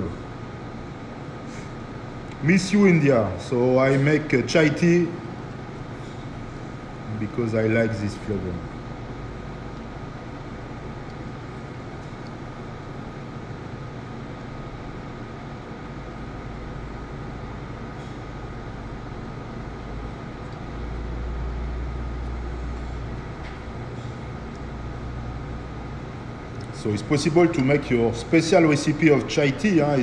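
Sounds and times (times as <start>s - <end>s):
kitchen machinery humming: 0.0s - 30.0s.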